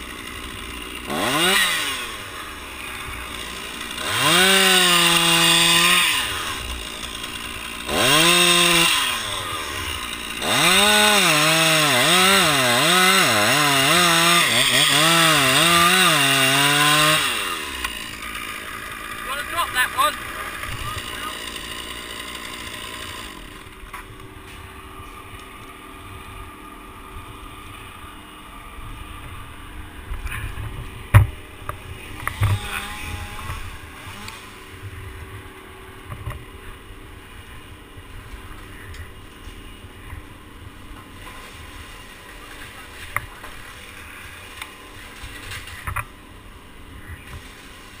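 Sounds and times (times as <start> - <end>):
small engine idling: 0.0 - 13.0, 14.5 - 48.0.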